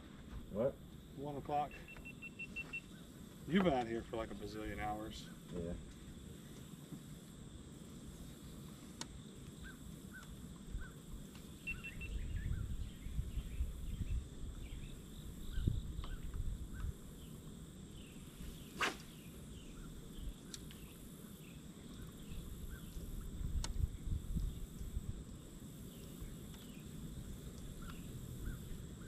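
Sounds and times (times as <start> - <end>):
insect drone: 0.0 - 29.0
small birds chirping faintly: 0.0 - 29.0.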